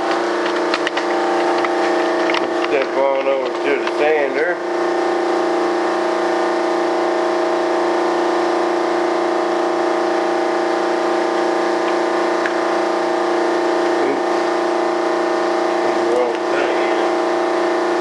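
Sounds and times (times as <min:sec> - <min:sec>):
sander motor hum: 0:00.0 - 0:18.0.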